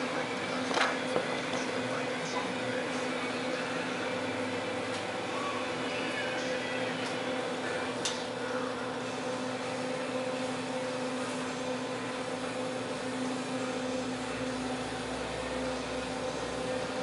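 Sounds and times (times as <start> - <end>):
fan motor humming: 0.0 - 17.0.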